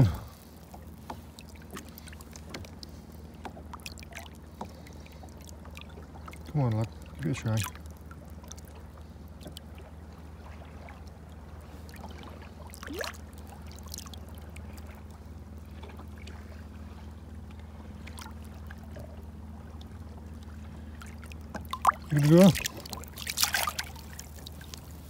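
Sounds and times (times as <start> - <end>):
boat engine idling: 0.0 - 25.0
small water splashes: 0.0 - 25.0
water lapping against hull: 0.0 - 25.0.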